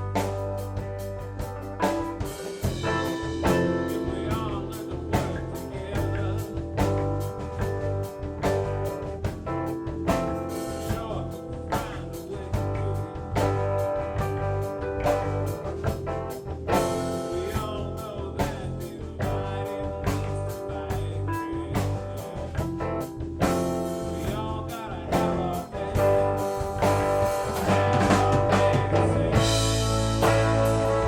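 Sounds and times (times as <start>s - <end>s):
drum hits: 0.0s - 21.1s, 22.0s - 31.0s
bass guitar: 0.0s - 31.0s
guitar lines: 0.0s - 31.0s.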